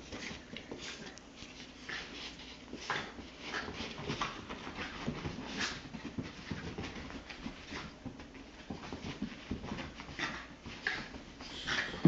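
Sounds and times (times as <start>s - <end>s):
dogs huffing and scuffling: 0.0s - 12.0s.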